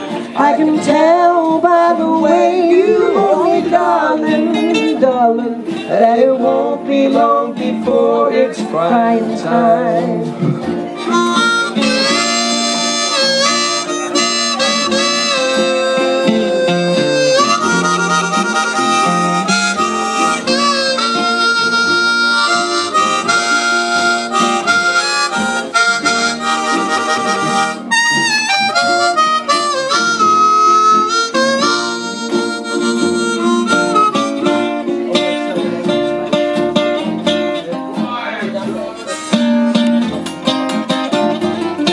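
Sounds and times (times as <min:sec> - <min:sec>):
country band playing: 0:00.0 - 0:41.9.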